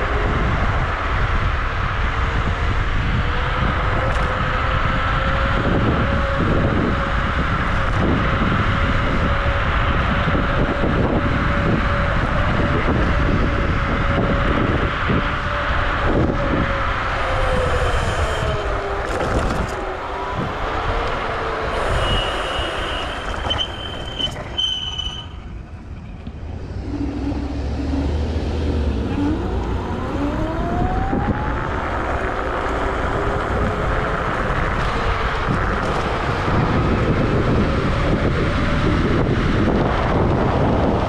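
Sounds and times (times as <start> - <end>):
electric scooter motors whining: 0.0 - 25.1, 26.2 - 41.0
wind rumble on microphone: 0.0 - 41.0.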